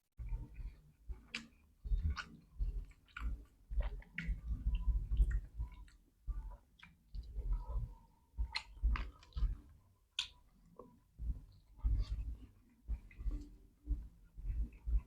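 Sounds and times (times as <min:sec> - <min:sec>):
person chewing food: 0:00.2 - 0:15.0
wet clicks and soft thumps: 0:00.2 - 0:15.0.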